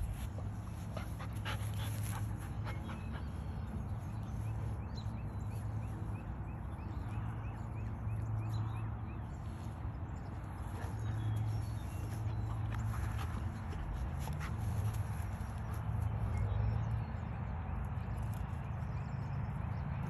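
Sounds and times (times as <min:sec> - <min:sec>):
rustling and scuffling in grass: 0:00.0 - 0:19.9.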